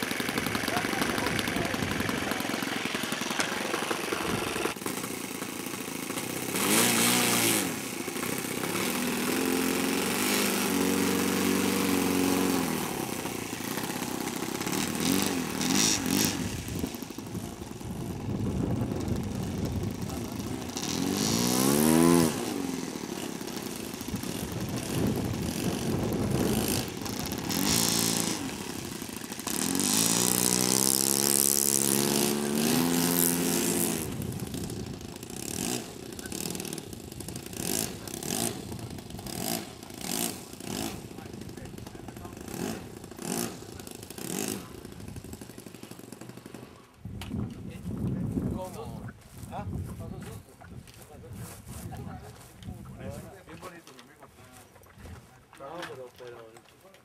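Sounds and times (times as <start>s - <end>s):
model airplane engine revving: 0.0s - 47.4s.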